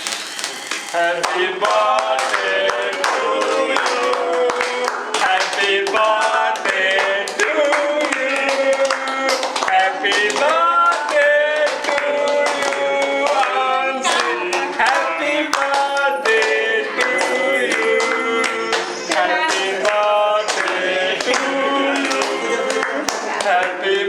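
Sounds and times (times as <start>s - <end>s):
hands clapping in rhythm: 0.0s - 24.0s
music with singing: 0.8s - 24.0s.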